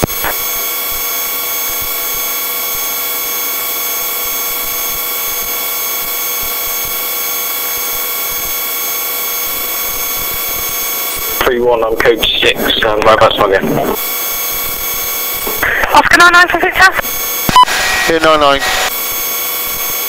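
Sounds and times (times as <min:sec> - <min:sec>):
high turbine whines: 0:00.0 - 0:20.0.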